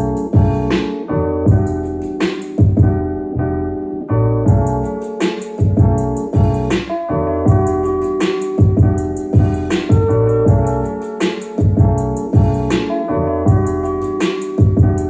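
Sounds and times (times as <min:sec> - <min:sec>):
electric piano music with beat: 0:00.0 - 0:15.0.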